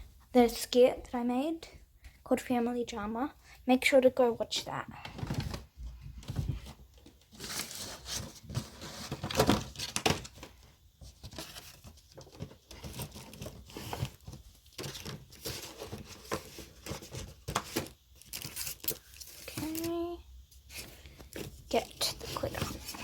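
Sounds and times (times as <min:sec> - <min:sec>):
crinkling and rustling: 0:04.4 - 0:23.0.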